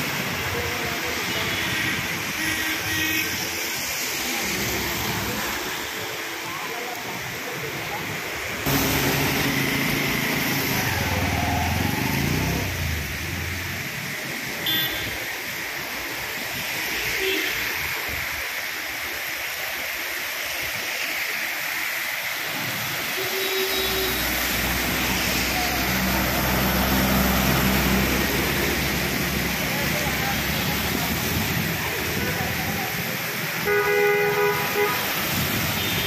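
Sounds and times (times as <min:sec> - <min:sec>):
heavy rain on a flooded road: 0:00.0 - 0:36.0.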